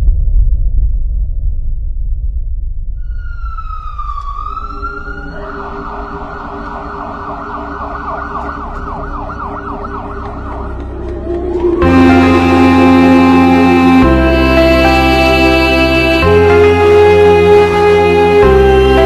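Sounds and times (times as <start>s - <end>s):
low steady rumble: 0.0s - 16.0s
emergency vehicle siren: 3.0s - 19.0s.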